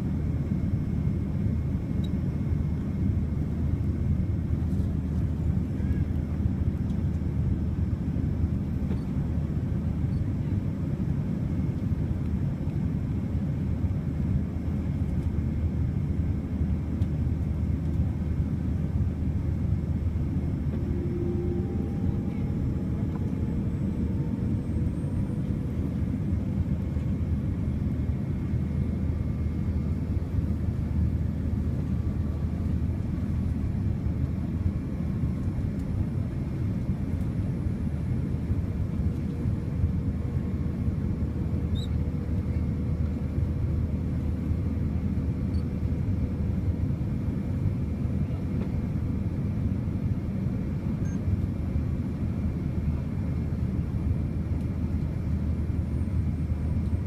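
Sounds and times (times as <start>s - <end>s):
airliner cabin drone: 0.0s - 57.0s
faint steady hum: 0.0s - 57.0s.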